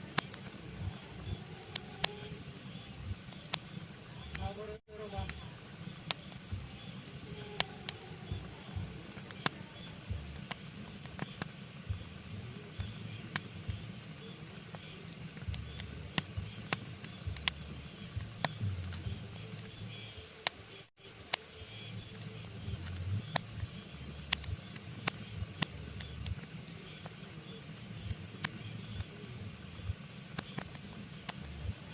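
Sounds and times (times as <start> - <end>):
fire hiss: 0.0 - 31.9
logs crackling in fireplace: 0.0 - 31.9.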